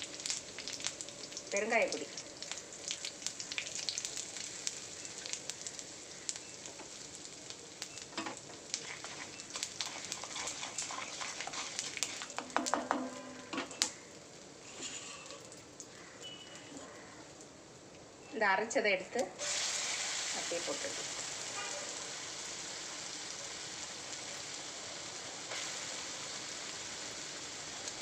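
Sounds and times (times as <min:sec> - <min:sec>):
oil sizzling and crackling: 0:00.0 - 0:18.3, 0:19.1 - 0:28.0.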